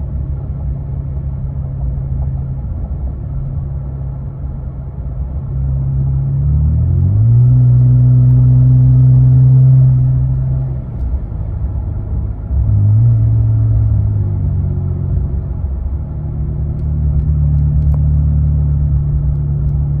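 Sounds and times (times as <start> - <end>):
engine exhaust drone: 0.0 - 20.0.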